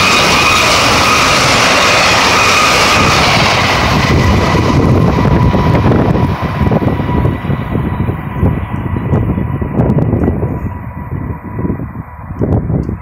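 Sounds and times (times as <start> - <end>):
train rushing past: 0.0 - 13.0
wind buffeting microphone: 0.0 - 13.0.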